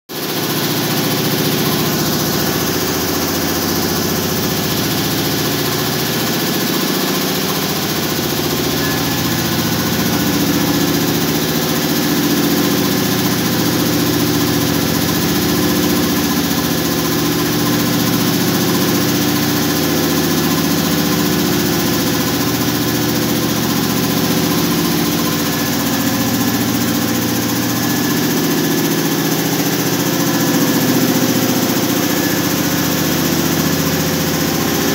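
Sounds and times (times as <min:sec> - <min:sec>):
air compressor running: 0:00.1 - 0:34.9.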